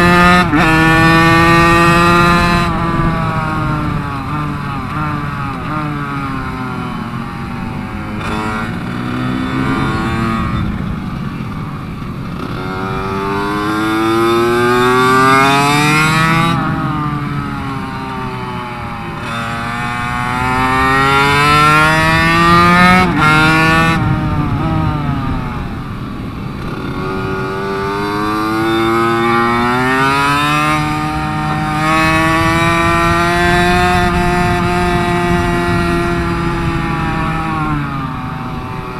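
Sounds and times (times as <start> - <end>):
minibike engine revving: 0.0 - 38.9.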